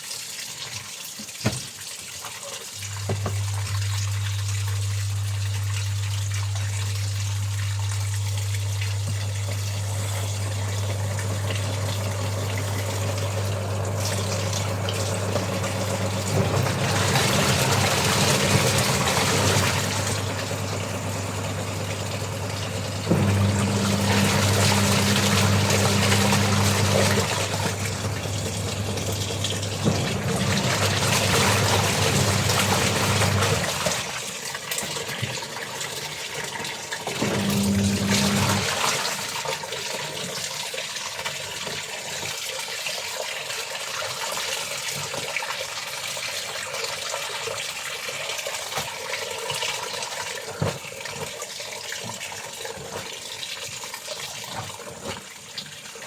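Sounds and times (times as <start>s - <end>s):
water running and splashing: 0.0s - 56.0s.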